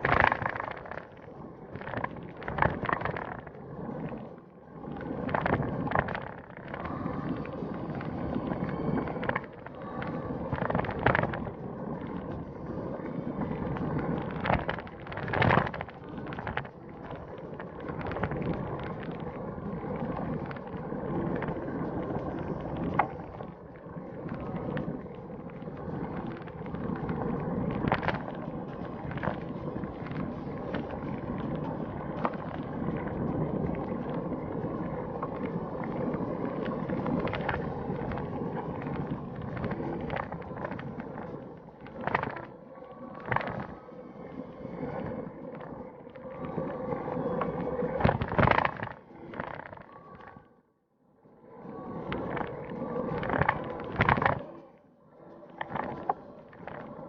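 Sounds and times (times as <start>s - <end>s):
bicycle rolling noise: 0.0s - 50.5s, 51.4s - 57.0s.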